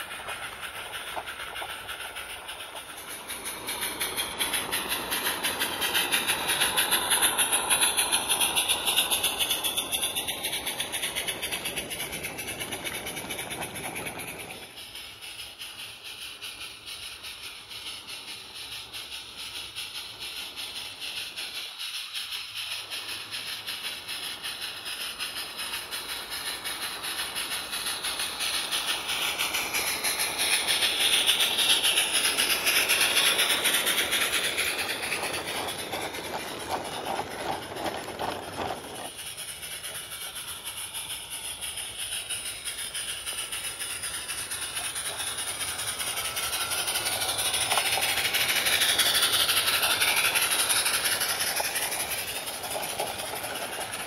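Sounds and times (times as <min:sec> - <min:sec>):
small wagons rattling over track: 0:00.0 - 0:54.0
steam hiss: 0:00.0 - 0:54.0
steam locomotive exhaust beats: 0:00.0 - 0:54.0.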